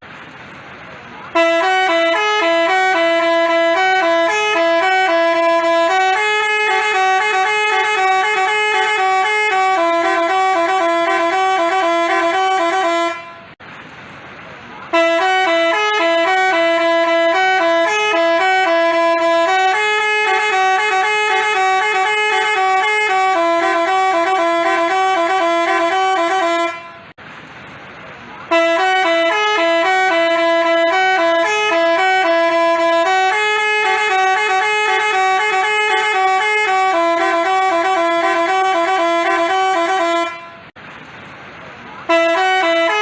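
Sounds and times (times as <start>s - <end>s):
multi-tone bus horn tune: 1.2s - 13.6s, 14.9s - 27.2s, 28.4s - 40.8s, 42.0s - 43.0s.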